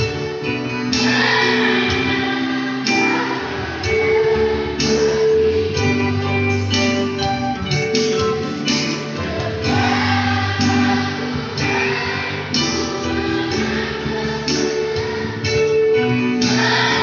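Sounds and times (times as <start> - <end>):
children's choir singing: 0.0 - 7.0, 8.4 - 17.0.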